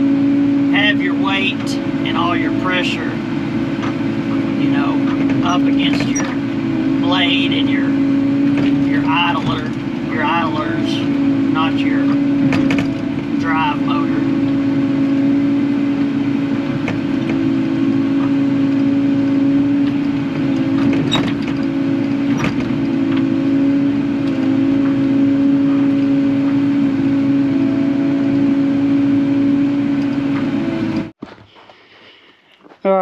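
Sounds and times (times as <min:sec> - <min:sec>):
excavator diesel engine running: 0:00.0 - 0:31.2.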